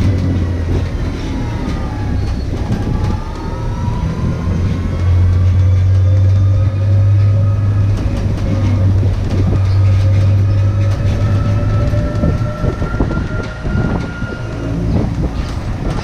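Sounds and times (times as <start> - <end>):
rattles and knocks of tram body: 0.0 - 16.0
road noise: 0.0 - 16.0.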